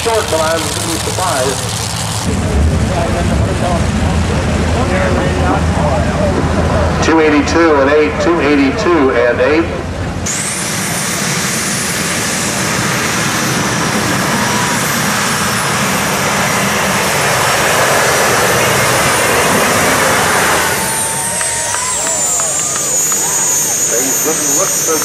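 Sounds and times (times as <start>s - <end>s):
high engine whine: 0.0s - 25.0s
tractor engine running flat out: 0.0s - 25.0s.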